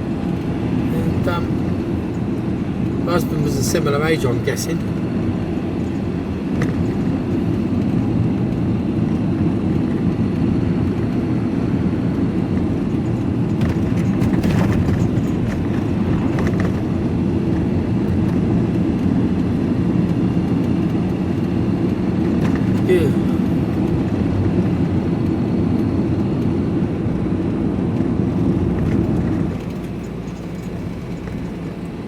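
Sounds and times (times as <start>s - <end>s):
engine and road noise: 0.0s - 32.0s.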